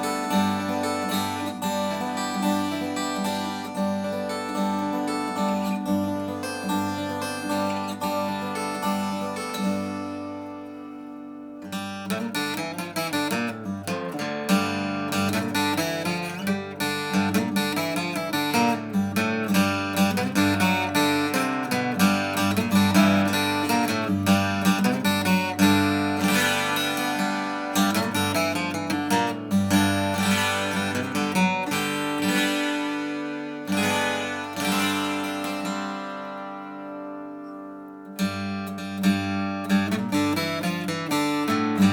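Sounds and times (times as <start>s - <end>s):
acoustic guitar picking and strumming: 0.0s - 41.9s.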